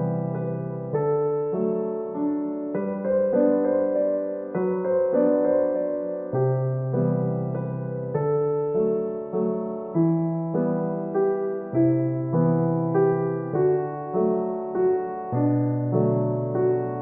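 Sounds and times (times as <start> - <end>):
slow gentle piano piece: 0.0 - 17.0.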